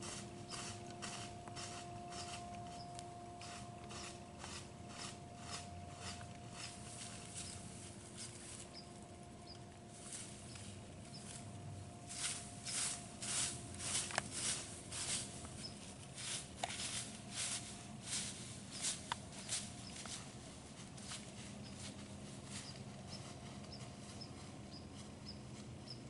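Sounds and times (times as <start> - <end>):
animal walking through dry leaves: 0.0 - 26.0.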